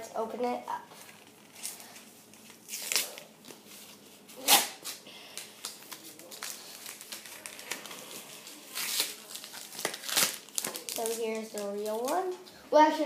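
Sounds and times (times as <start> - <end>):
wrapper crinkling and tearing: 1.1 - 12.4.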